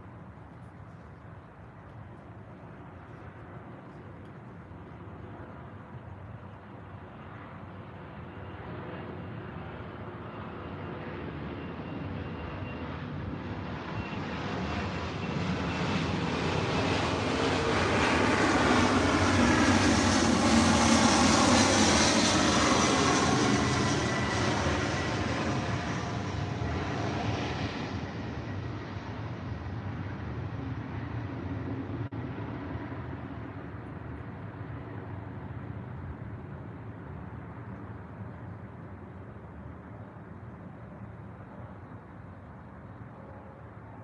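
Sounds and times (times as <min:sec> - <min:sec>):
aircraft engine drone: 0:00.0 - 0:44.0.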